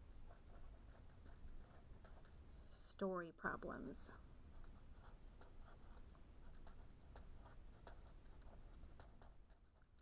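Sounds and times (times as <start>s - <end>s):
pen scratching on paper: 0.0s - 2.8s, 4.5s - 10.0s.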